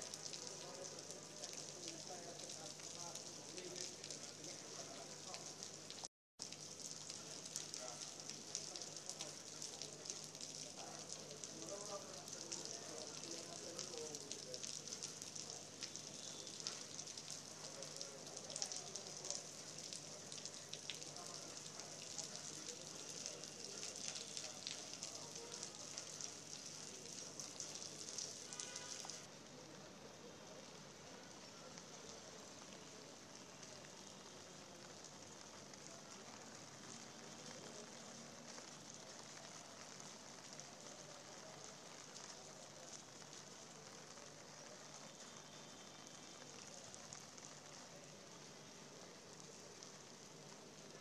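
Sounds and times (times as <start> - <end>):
rain on wet paving: 0.0 - 51.0.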